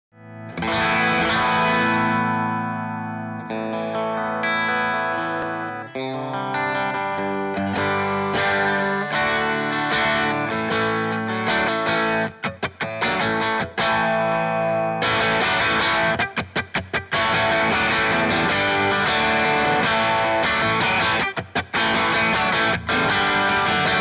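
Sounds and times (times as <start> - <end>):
overdriven electric guitar chords: 0.2 - 24.0.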